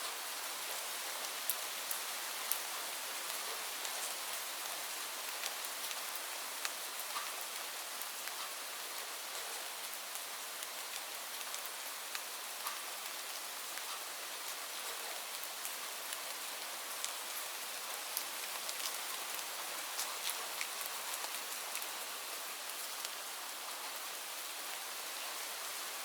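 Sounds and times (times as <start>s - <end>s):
rain falling: 0.0s - 26.0s
raindrops ticking on a surface: 0.1s - 25.3s.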